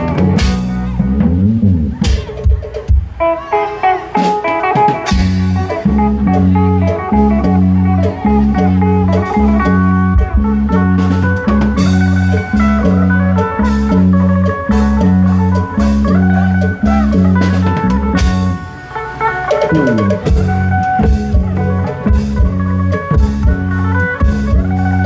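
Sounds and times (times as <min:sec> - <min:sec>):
pulsing bass line: 0:00.0 - 0:02.6, 0:05.1 - 0:18.7, 0:19.3 - 0:25.0
drum strikes: 0:00.0 - 0:03.3, 0:04.2 - 0:25.0
plucked lead melody: 0:00.0 - 0:25.0.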